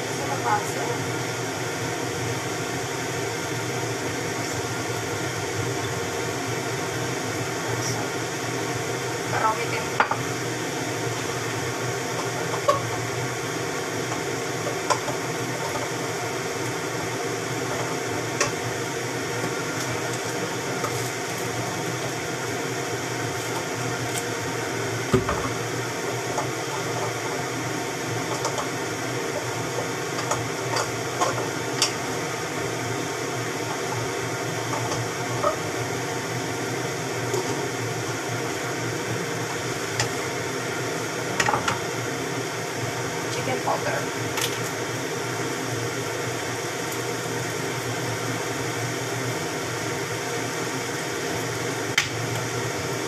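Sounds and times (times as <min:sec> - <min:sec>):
stovetop cooking hiss: 0:00.0 - 0:53.0.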